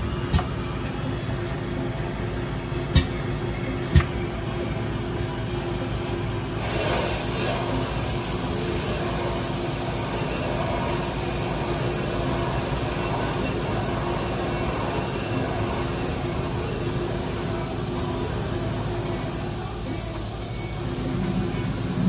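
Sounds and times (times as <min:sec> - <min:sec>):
boring bar machine drone: 0:00.0 - 0:22.0.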